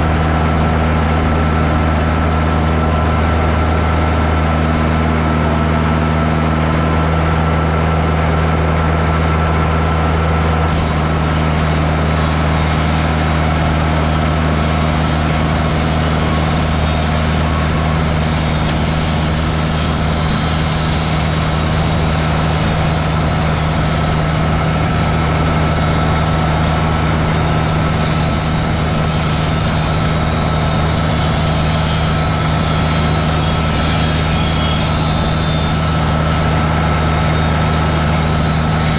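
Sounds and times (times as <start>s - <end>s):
band saw blade cutting log: 0.0s - 38.9s
sawmill engine running: 0.0s - 38.9s.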